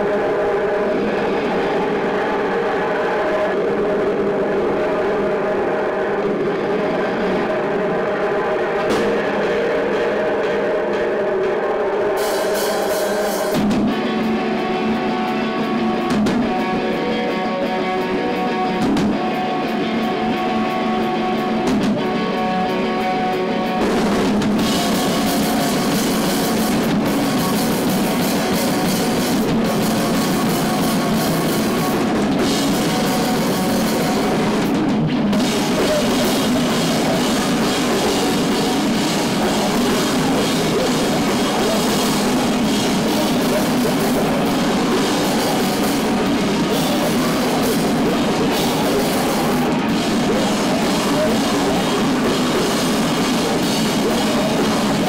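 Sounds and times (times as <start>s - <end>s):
drum kit with cymbals: 0.0s - 55.0s
electric guitar: 0.0s - 55.0s.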